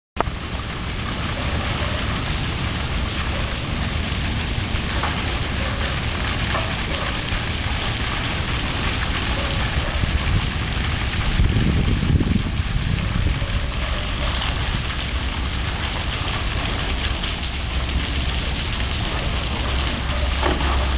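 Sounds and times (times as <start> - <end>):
water cascading into pool: 0.2 - 20.9.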